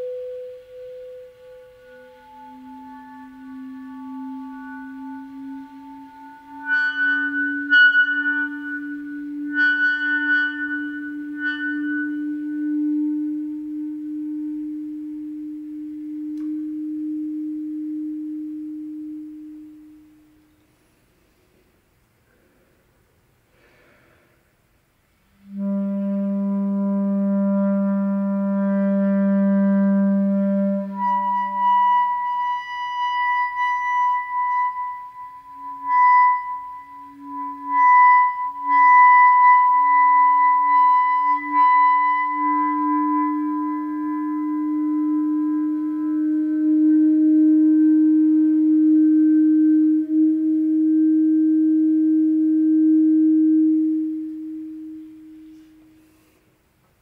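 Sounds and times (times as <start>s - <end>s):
clarinet playing: 0.0s - 20.6s, 25.3s - 56.4s.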